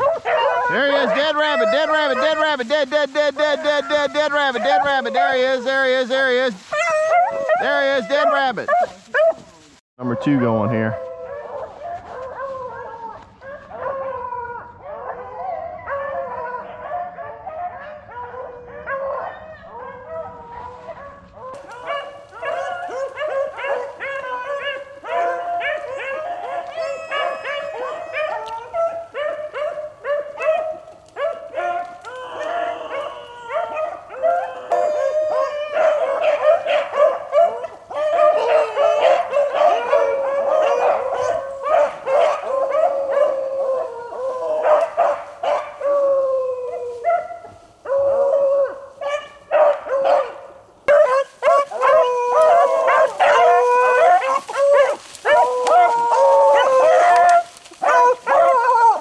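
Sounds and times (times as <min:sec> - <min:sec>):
dogs baying and barking: 0:00.0 - 0:59.0.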